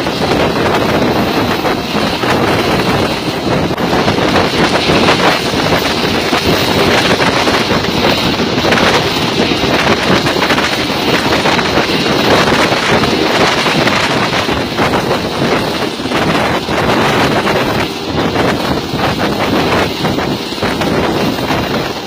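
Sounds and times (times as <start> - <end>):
helicopter engine and rotor: 0.0 - 22.0
wind buffeting microphone: 0.0 - 22.0.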